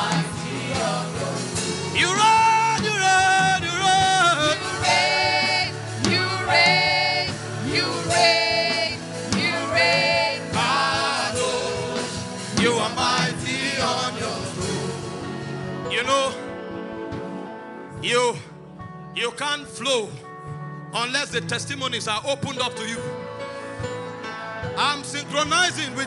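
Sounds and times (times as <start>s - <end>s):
instrumental backing: 0.0s - 26.0s.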